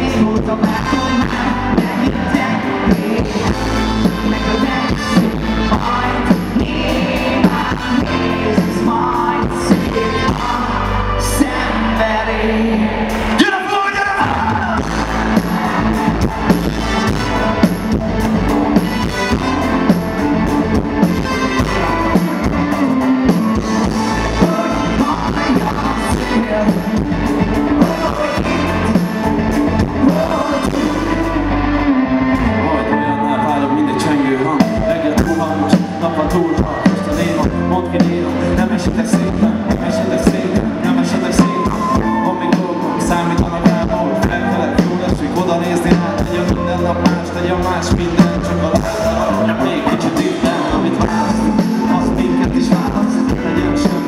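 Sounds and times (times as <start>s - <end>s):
live band playing pop song: 0.0s - 54.0s.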